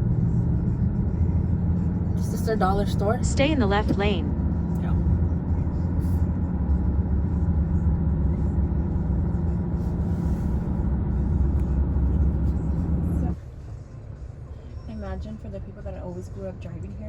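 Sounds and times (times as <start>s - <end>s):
engine and road noise: 0.0s - 17.0s.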